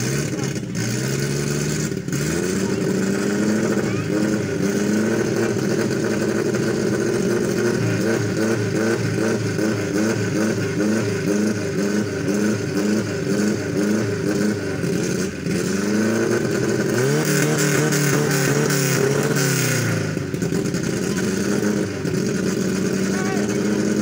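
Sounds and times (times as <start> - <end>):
engine revving unevenly: 0.0 - 24.0.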